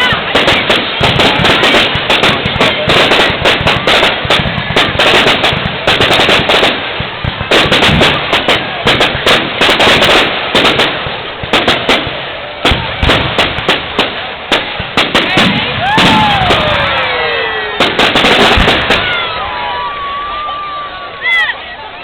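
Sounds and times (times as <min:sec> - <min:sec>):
fireworks bangs and crackles: 0:00.0 - 0:21.4.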